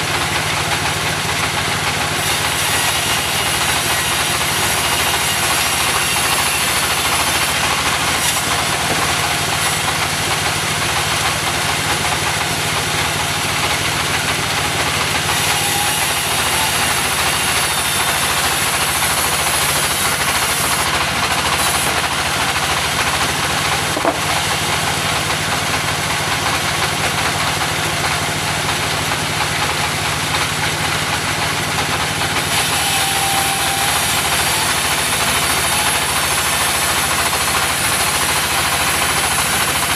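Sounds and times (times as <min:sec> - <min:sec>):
sawmill engine droning: 0:00.0 - 0:39.9.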